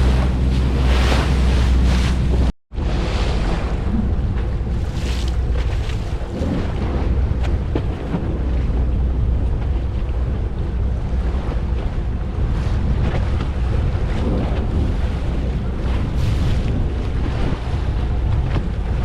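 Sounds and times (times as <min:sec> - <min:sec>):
boat engine rumble: 0:00.0 - 0:19.0
water around hull: 0:00.0 - 0:19.0
wind buffeting microphone: 0:00.0 - 0:19.0.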